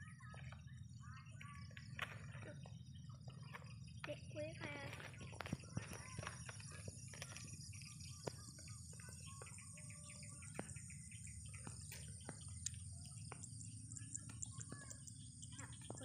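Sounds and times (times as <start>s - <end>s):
birds chirping: 0.0s - 16.0s
high insect drone: 1.0s - 16.0s.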